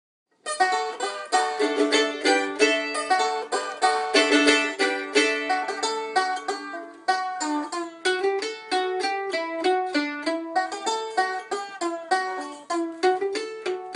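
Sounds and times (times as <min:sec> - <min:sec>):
banjo picking: 0:00.4 - 0:13.9.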